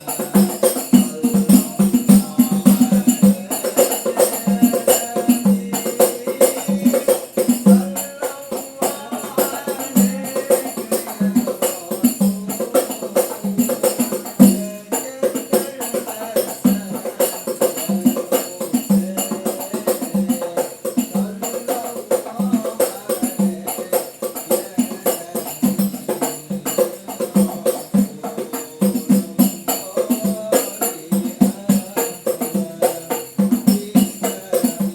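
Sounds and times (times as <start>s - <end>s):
music with rhythmic percussion beat: 0.0s - 34.9s.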